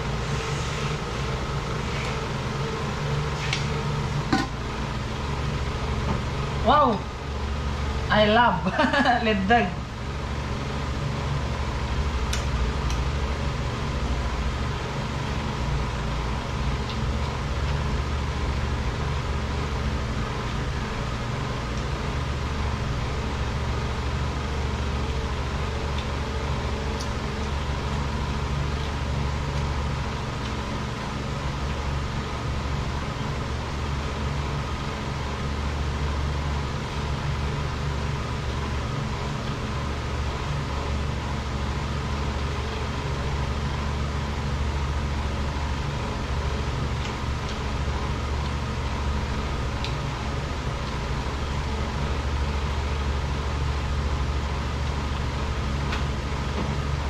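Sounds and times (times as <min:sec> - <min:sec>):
mechanical hum drone: 0:00.0 - 0:57.0.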